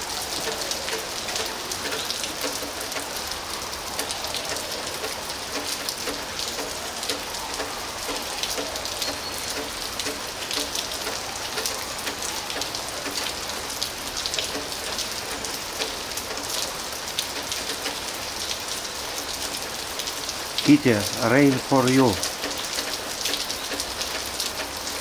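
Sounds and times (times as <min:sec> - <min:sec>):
rain falling on concrete: 0:00.0 - 0:25.0.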